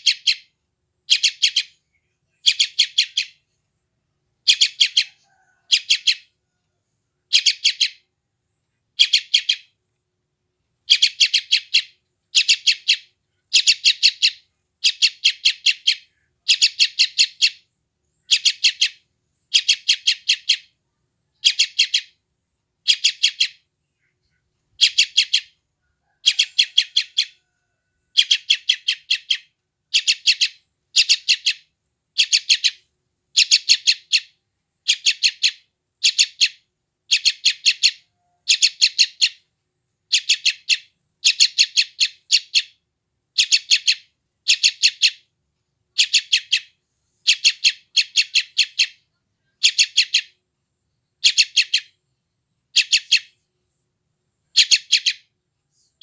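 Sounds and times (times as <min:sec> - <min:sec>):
bird chattering: 0:00.0 - 0:00.5, 0:01.1 - 0:03.4, 0:04.4 - 0:06.3, 0:07.3 - 0:08.0, 0:09.0 - 0:09.8, 0:10.9 - 0:22.2, 0:22.8 - 0:39.5, 0:40.1 - 0:42.8, 0:43.4 - 0:45.3, 0:46.0 - 0:50.4, 0:51.2 - 0:52.0, 0:52.7 - 0:53.4, 0:54.5 - 0:56.0.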